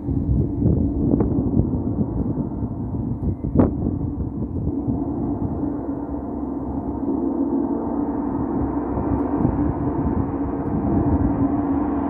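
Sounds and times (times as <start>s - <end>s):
shimmering gong: 1.4s - 12.0s.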